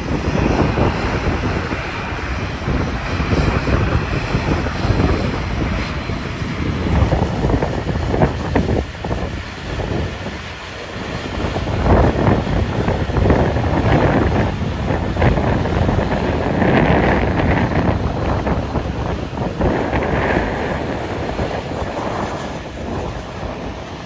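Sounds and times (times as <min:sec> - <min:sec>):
jet engines running: 0:00.0 - 0:24.0
wind buffeting microphone: 0:00.0 - 0:24.0.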